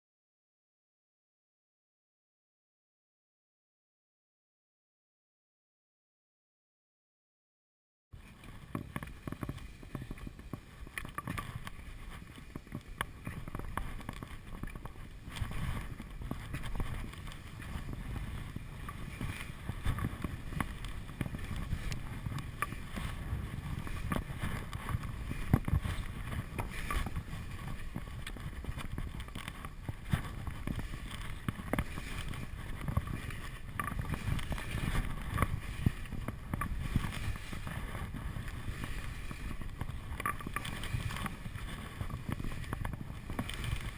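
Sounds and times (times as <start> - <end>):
skis scraping on snow: 8.2 - 43.9
wind rushing over microphone: 8.2 - 43.9.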